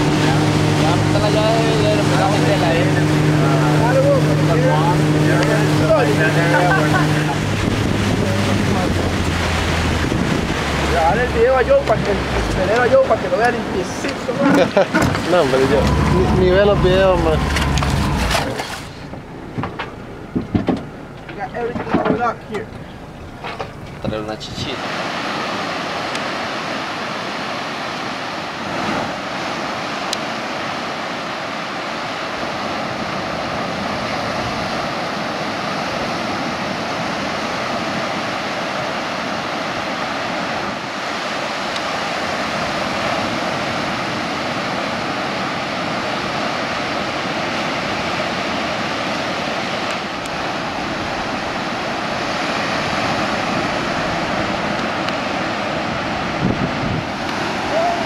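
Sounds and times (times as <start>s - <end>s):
surf breaking on a beach: 0.0s - 58.0s.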